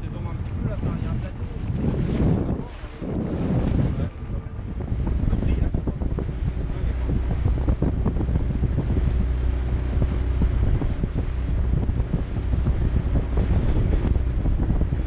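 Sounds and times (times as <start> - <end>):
boat motor humming: 0.0 - 15.0
hull slapping through water: 0.0 - 15.0
wind buffeting microphone: 0.0 - 15.0.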